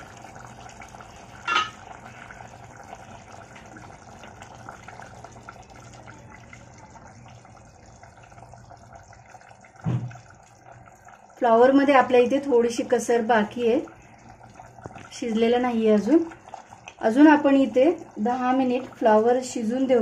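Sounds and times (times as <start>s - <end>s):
gravy simmering in a pot: 0.0s - 20.0s.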